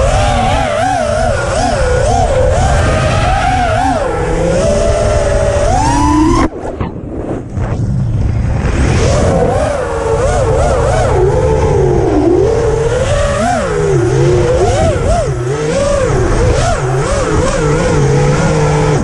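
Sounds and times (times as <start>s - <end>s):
drone motors whining: 0.0s - 19.0s
steady rushing noise: 0.0s - 19.0s.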